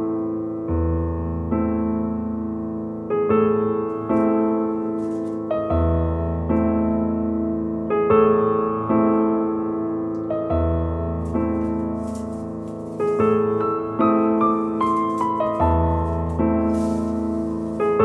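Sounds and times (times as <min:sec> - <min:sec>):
slow gentle piano piece: 0:00.0 - 0:18.0.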